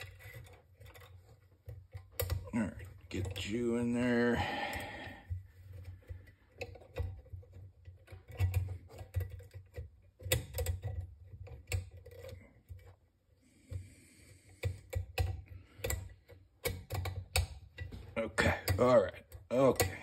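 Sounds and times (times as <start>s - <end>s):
metallic clicks and scrapes: 0.0s - 20.0s.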